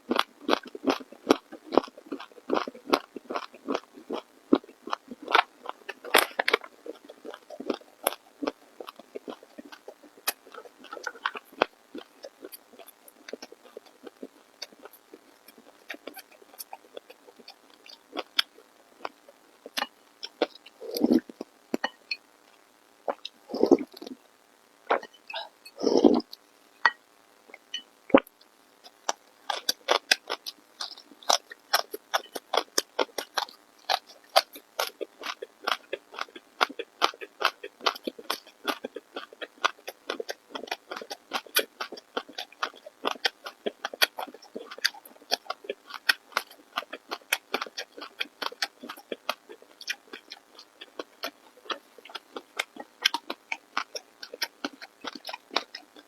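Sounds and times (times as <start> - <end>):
person chewing food: 0.0 - 24.2, 24.9 - 56.0.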